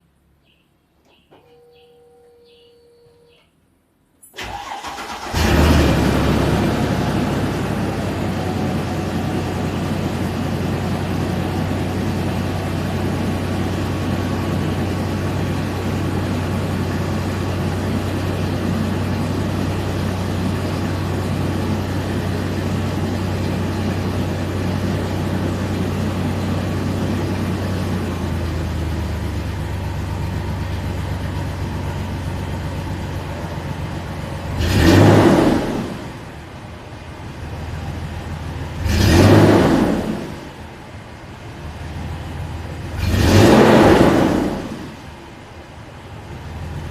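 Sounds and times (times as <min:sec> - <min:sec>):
car engine starting and idling: 0:04.2 - 0:46.9.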